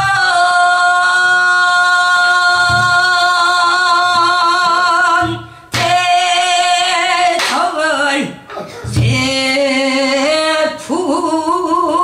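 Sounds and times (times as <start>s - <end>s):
woman singing held notes with vibrato: 0.0s - 12.0s.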